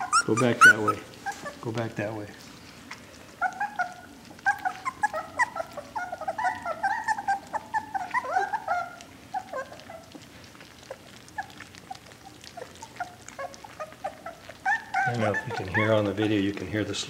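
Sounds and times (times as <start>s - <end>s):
puppies whining and squealing: 0.0s - 2.2s, 2.8s - 16.9s
wet slurping: 0.0s - 17.0s.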